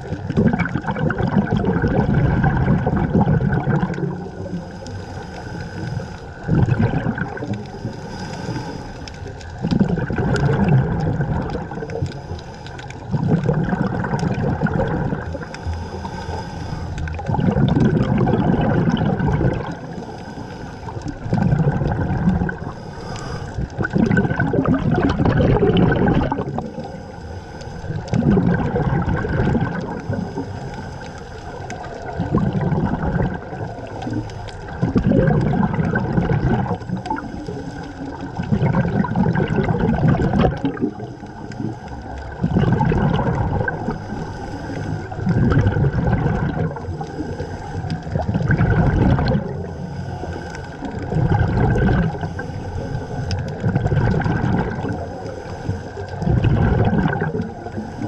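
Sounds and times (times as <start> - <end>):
exhaled bubbles rushing: 0.0 - 58.0
diver breathing through regulator: 3.0 - 58.0.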